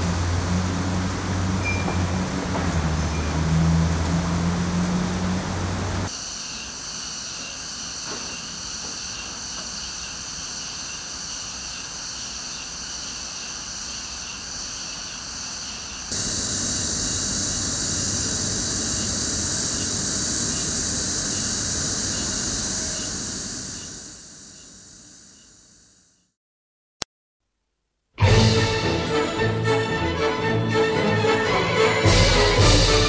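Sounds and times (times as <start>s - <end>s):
outdoor ambience hiss: 0.0s - 26.4s, 27.4s - 33.0s.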